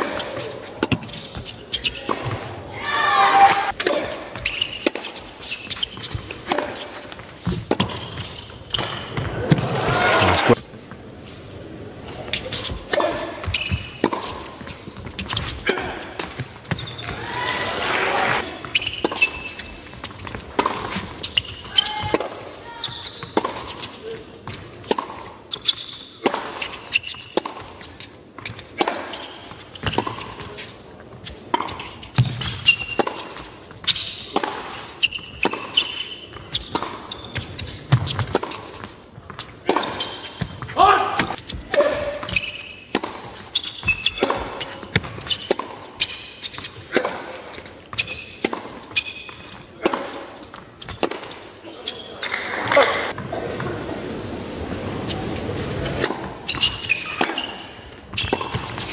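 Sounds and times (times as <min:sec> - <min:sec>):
rackets striking tennis ball: 0:00.0 - 0:02.5, 0:03.5 - 0:11.0, 0:12.2 - 0:17.2, 0:18.3 - 0:53.2, 0:55.9 - 0:58.9
shoes squeaking on court: 0:00.0 - 0:02.5, 0:03.6 - 0:17.4, 0:18.2 - 0:58.9
tennis ball bouncing: 0:03.8 - 0:11.0, 0:12.3 - 0:17.2, 0:18.4 - 0:30.6, 0:31.2 - 0:51.4, 0:56.0 - 0:58.9.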